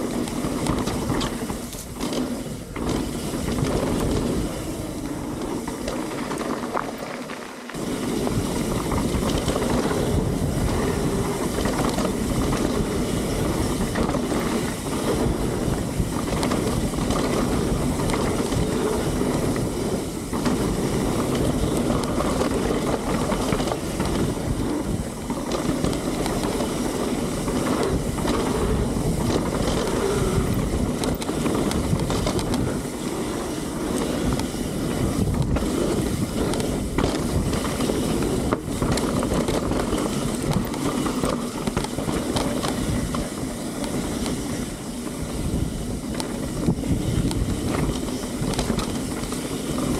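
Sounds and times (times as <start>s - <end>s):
bike knocks and rattles: 0.0s - 49.9s
tyre and wind rush: 0.0s - 49.9s.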